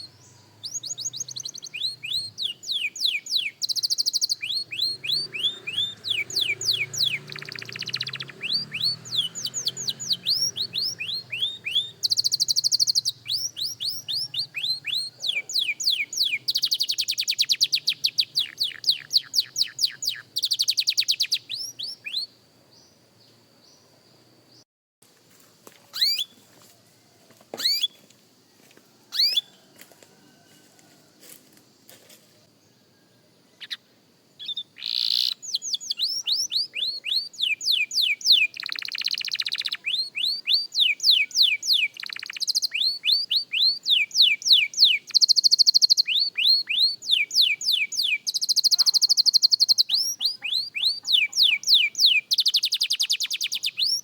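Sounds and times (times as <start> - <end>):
canary singing: 0.0 - 22.4, 25.9 - 26.4, 27.6 - 28.1, 29.1 - 29.7, 33.5 - 54.0
canary chirps: 0.0 - 23.0, 25.9 - 26.4, 27.6 - 28.0, 29.1 - 29.7, 33.6 - 54.0.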